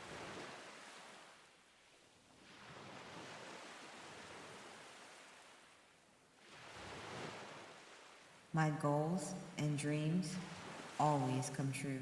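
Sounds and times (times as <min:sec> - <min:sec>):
faint ocean waves washing ashore: 0:00.0 - 0:12.0.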